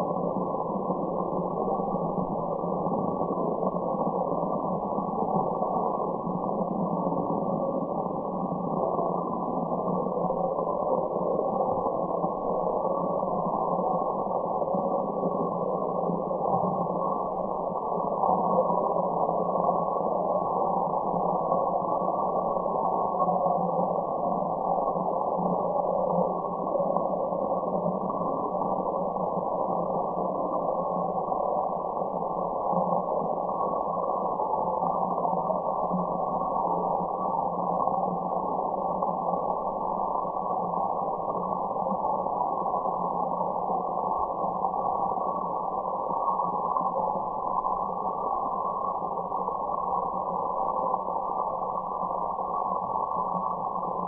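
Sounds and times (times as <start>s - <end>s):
muffled white noise: 0.0s - 54.0s.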